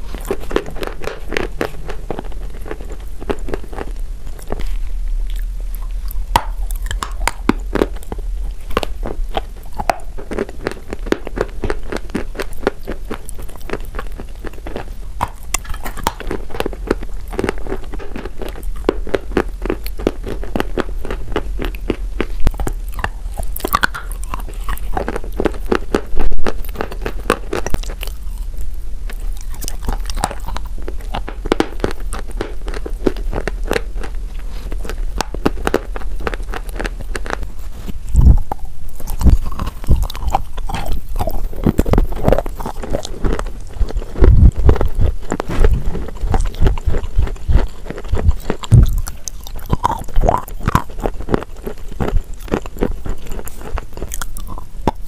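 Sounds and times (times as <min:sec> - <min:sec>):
chalk biting and chewing: 0:00.0 - 0:55.0.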